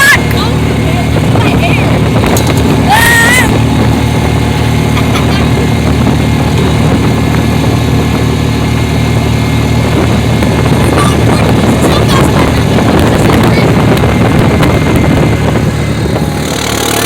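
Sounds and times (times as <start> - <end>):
noisy rush: 0.0 - 17.0
vehicle engine running: 0.0 - 17.0.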